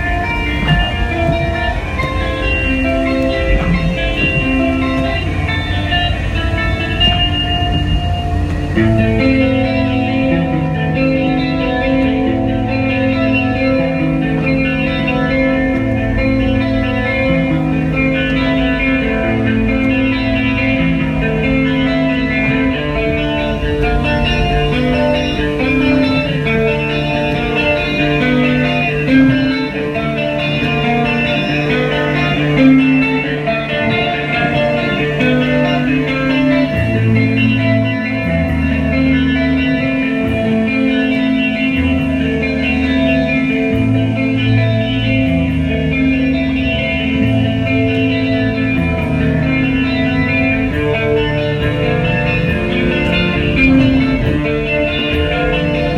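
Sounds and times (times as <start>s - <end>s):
guitar-led music with bass: 0.0s - 55.9s.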